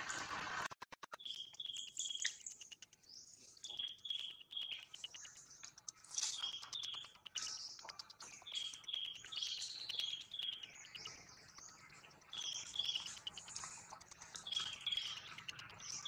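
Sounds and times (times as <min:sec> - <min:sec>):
birds chirping: 0:01.2 - 0:16.0.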